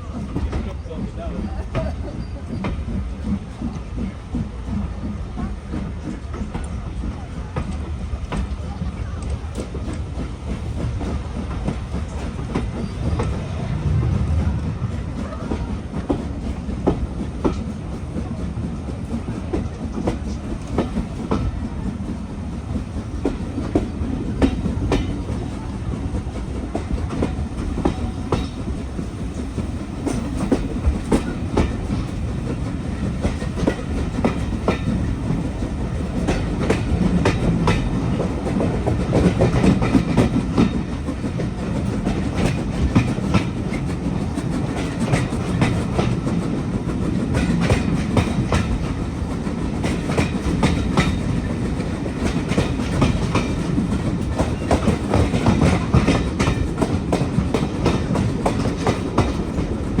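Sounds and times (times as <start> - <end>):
train rumbling along track: 0.0 - 60.0
wheels clacking over rail joints: 9.2 - 60.0.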